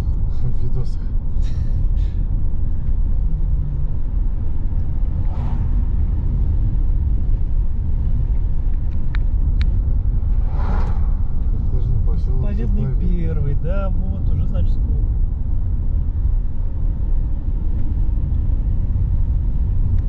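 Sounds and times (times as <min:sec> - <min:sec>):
car road rumble from inside: 0:00.0 - 0:20.0.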